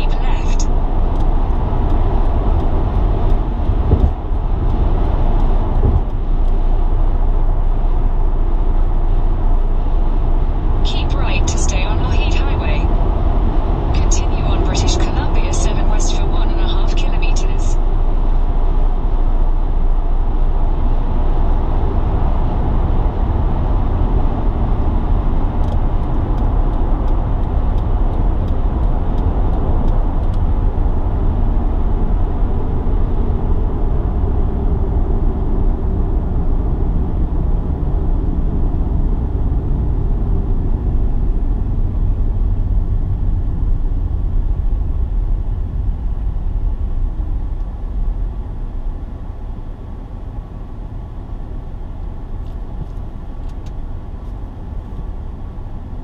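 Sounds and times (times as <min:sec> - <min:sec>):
car engine noise: 0:00.0 - 0:56.0
road and tyre rumble: 0:00.0 - 0:56.0.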